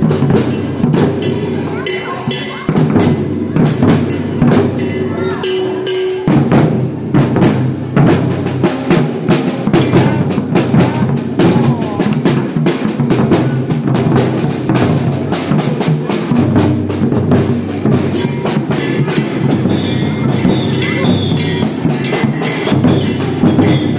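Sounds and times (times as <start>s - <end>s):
sharp clacking strikes: 0.0s - 10.8s, 14.7s - 23.9s
percussion group drumming: 0.0s - 23.9s.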